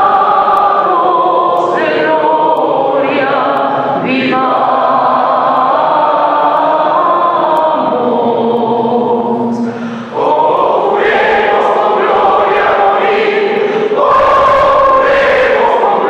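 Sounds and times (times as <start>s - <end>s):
group singing long notes: 0.0s - 16.0s.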